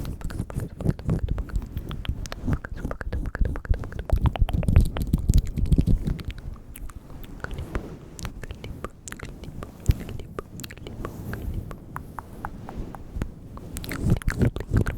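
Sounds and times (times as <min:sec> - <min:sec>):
wet lip and tongue clicks: 0:00.0 - 0:14.9.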